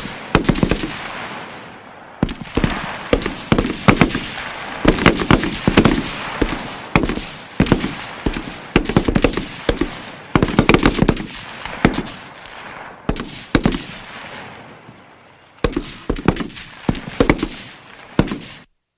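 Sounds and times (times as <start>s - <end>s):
gunshot echoes: 0.0s - 14.8s, 15.6s - 18.7s
rifle shots and bursts: 0.0s - 14.9s, 15.6s - 18.7s.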